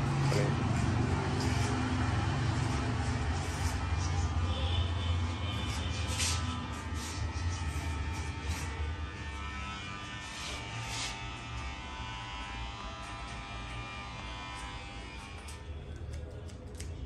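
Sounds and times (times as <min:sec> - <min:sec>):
electric hair clippers buzzing: 0:00.0 - 0:16.1.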